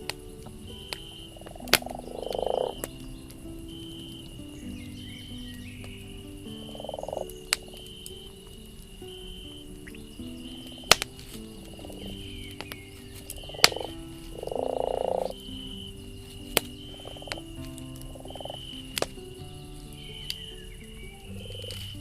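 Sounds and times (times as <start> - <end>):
campfire crackling and popping: 0.0 - 22.0
frog croaking: 0.0 - 22.0.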